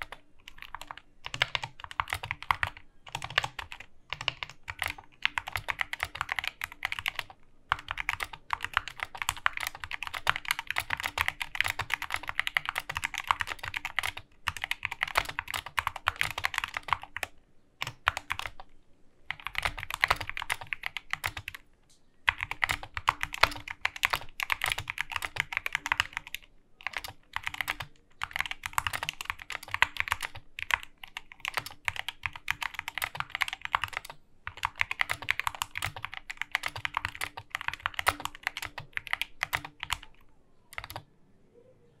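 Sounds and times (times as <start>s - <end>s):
fast typing on mechanical keyboard: 0.0s - 18.7s, 19.3s - 21.7s, 22.3s - 41.0s.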